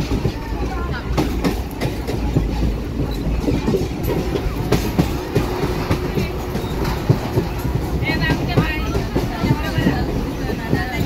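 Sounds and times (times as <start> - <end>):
train rumbling: 0.0 - 11.0
wheels clattering and knocking: 0.0 - 11.0.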